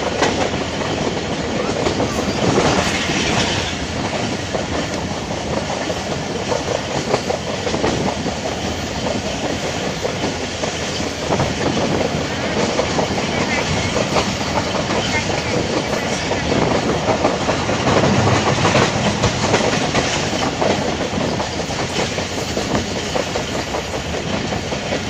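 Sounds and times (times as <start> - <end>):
train wheels rumbling on track: 0.0 - 25.0
wheels clattering over rails: 0.0 - 25.0.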